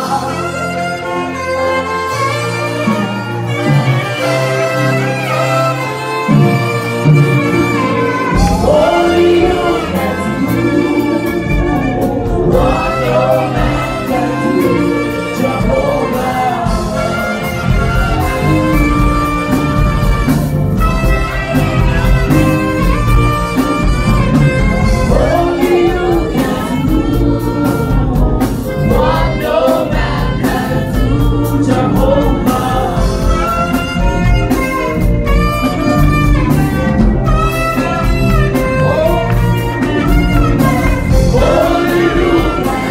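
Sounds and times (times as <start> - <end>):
backing band: 0.0 - 42.9
saxophones playing jazz gospel melody: 0.0 - 42.9.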